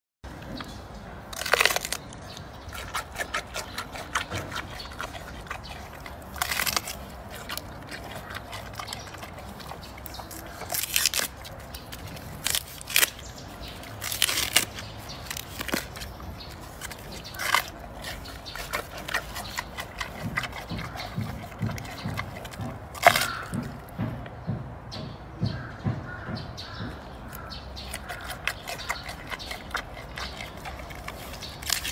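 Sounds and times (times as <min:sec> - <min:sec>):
chewing clicks: 0:00.4 - 0:24.0, 0:27.3 - 0:31.9
loud crunches of biting sugarcane: 0:01.2 - 0:24.0, 0:27.3 - 0:31.9.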